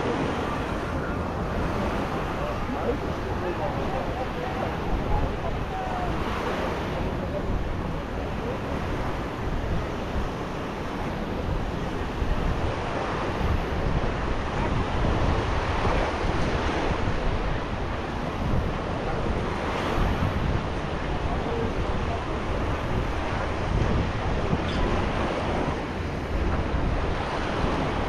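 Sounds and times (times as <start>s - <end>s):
waves washing onto beach: 0.0s - 28.0s
wind rumbling on microphone: 0.0s - 28.0s.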